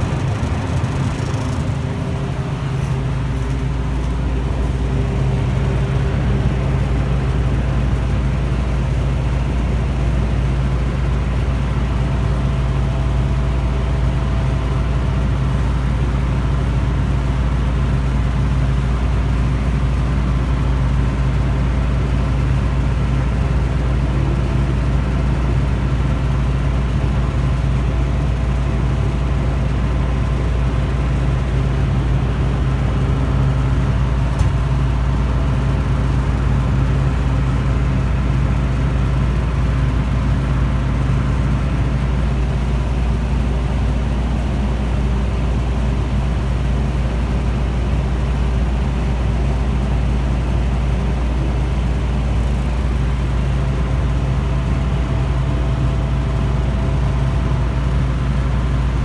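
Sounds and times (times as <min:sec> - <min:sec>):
refrigeration unit humming: 0:00.0 - 0:59.0.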